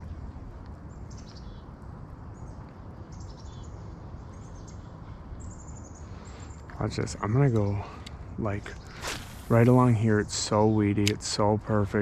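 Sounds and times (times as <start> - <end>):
small birds chirping: 0.0 - 12.0
steady low background noise: 0.0 - 12.0.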